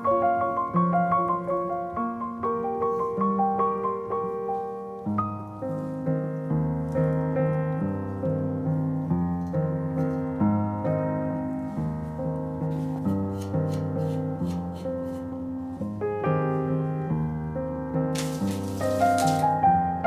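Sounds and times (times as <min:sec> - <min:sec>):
piano playing chords and melody: 0:00.0 - 0:20.0.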